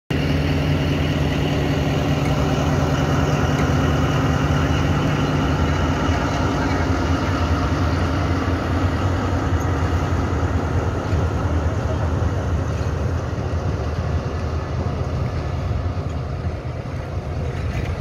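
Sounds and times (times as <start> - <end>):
diesel locomotive engine idling: 0.1 - 18.0.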